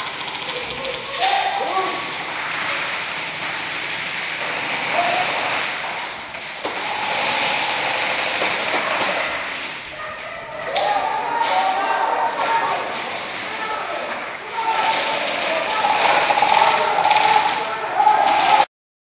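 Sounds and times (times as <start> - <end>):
faint voices: 0.0 - 3.7, 4.6 - 18.7
airsoft guns rapid fire: 0.0 - 10.0, 10.6 - 18.7.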